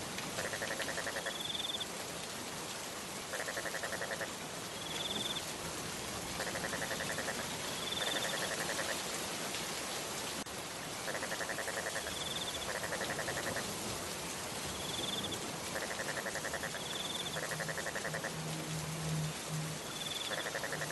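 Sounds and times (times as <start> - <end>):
steady rain hiss: 0.0 - 20.9.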